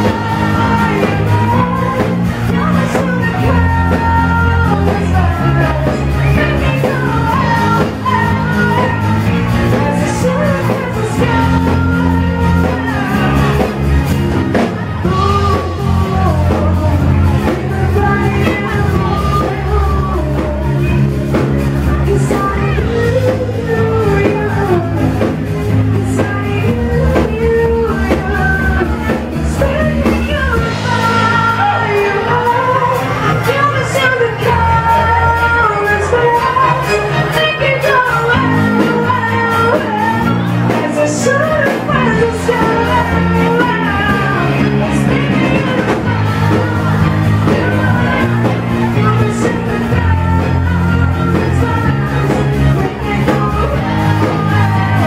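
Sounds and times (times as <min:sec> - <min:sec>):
live pop-rock band: 0:00.0 - 0:55.0
steady bass notes: 0:00.0 - 0:55.0
woman singing into microphone: 0:00.0 - 0:55.0.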